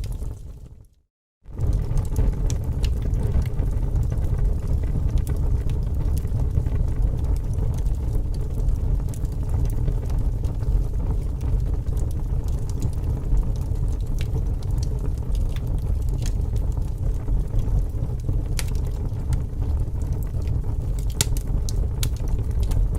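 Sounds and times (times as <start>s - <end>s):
fire crackling: 0.0s - 22.9s.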